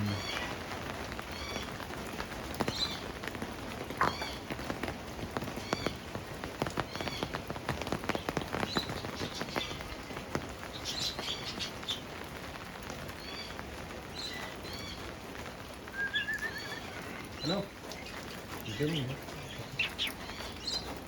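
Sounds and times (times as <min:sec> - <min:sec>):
birds chirping: 0:00.0 - 0:21.0
pattering small ticks: 0:00.2 - 0:21.0.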